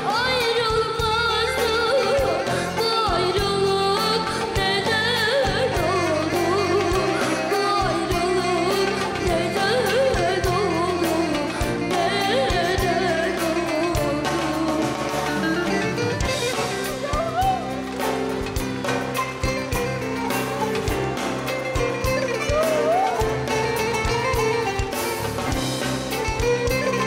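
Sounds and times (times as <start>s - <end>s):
string accompaniment: 0.0s - 27.0s.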